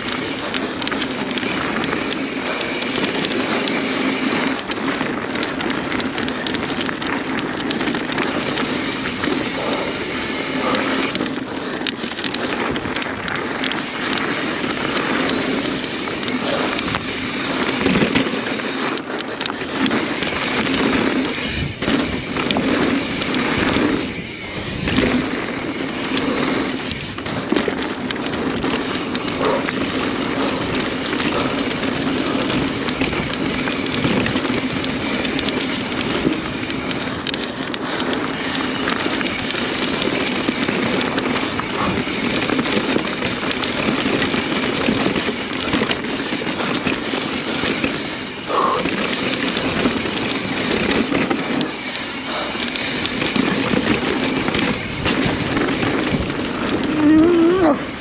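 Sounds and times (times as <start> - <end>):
bike knocking and rattling: 0.0 - 58.0
tyre and wind noise: 0.0 - 58.0.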